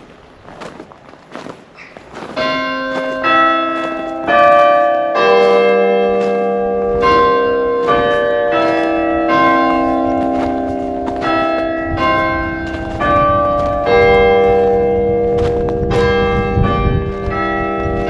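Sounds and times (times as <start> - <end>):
church bells ringing: 2.2 - 18.0.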